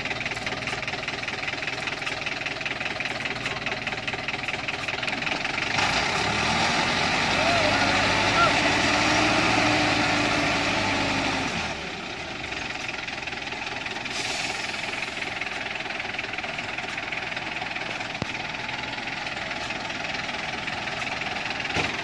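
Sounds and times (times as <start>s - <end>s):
truck diesel engine in mud: 0.0s - 22.0s.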